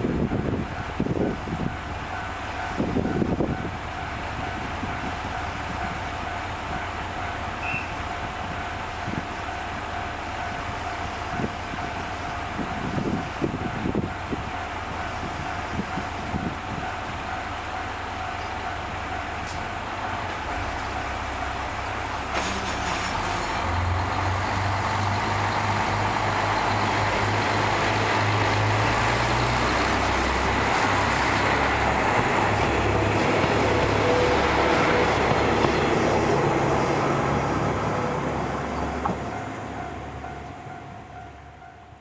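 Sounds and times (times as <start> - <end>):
diesel engine droning: 0.0 - 42.0
train cars rolling rumble: 0.0 - 42.0.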